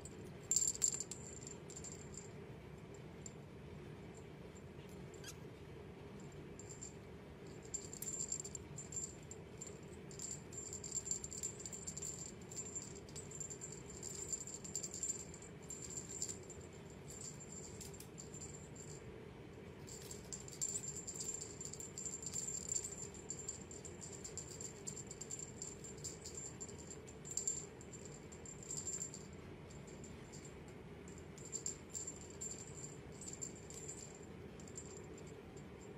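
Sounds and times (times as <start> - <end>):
toy rattle jingling: 0.4 - 2.3, 6.6 - 19.0, 19.9 - 30.5, 31.1 - 35.4.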